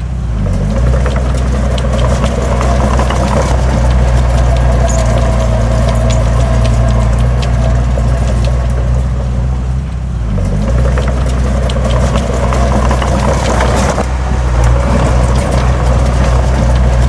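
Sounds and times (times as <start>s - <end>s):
clanking and rattling: 0.0s - 17.0s
heavy diesel engine under load: 0.0s - 17.0s
soil sliding: 0.2s - 17.0s.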